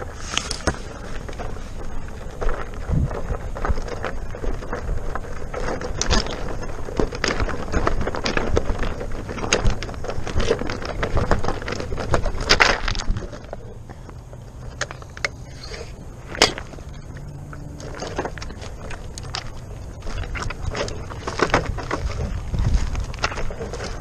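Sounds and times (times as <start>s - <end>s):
tyre rumbling on dirt trail: 0.0s - 24.0s
tyre knocking over loose rocks: 0.6s - 13.7s, 17.8s - 24.0s.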